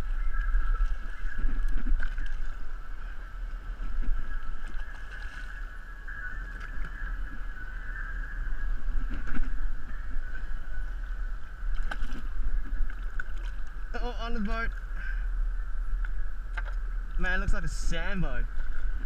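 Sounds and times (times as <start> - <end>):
water lapping against boat hull: 0.0 - 15.3
high-pitched whine: 0.0 - 19.0
wind rumbling on microphone: 0.0 - 19.0.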